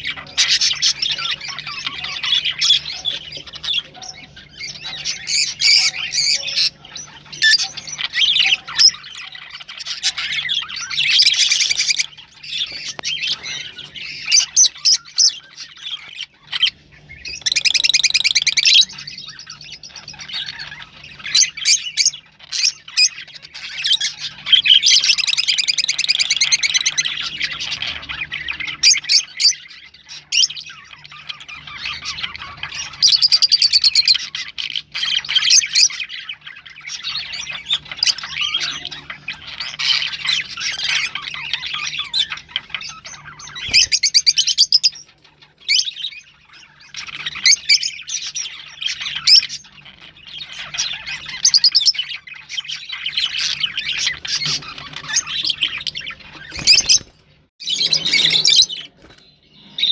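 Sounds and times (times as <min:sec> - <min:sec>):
lovebirds chattering and chirping: 0:00.0 - 0:59.9.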